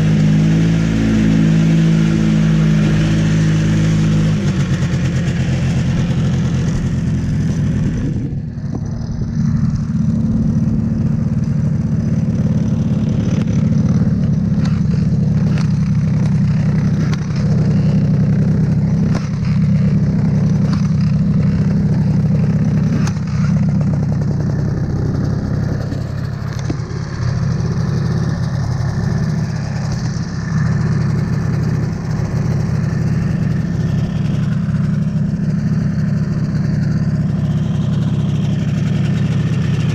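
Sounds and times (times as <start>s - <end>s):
two-stroke snowmobile engine: 0.0s - 39.9s.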